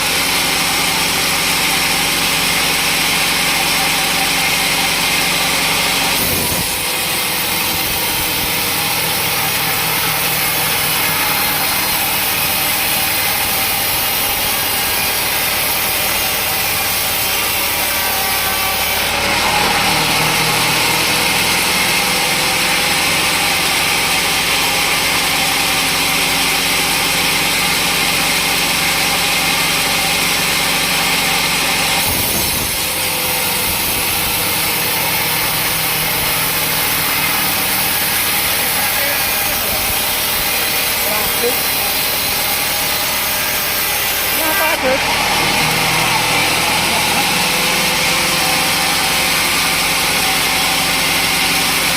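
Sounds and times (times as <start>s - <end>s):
saw cutting through log: 0.0s - 51.9s
saw motor running: 0.0s - 51.9s.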